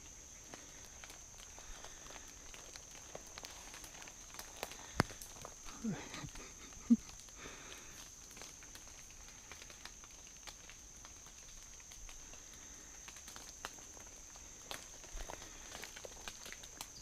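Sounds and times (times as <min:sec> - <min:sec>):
faint ticks and rustles: 0:00.0 - 0:17.0
insects droning: 0:00.0 - 0:17.0.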